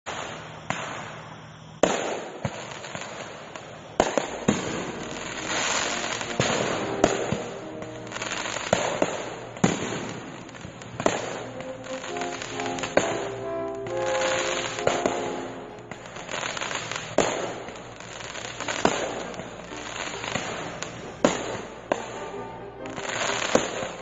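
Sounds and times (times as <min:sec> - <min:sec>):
fireworks bursting with bangs: 0:00.1 - 0:24.0
fireworks crackling: 0:00.1 - 0:24.0.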